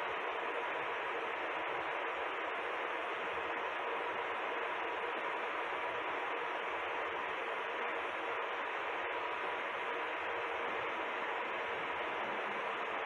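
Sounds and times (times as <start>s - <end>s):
faint hum: 0.0s - 13.0s
fan whirring hiss: 0.0s - 13.0s.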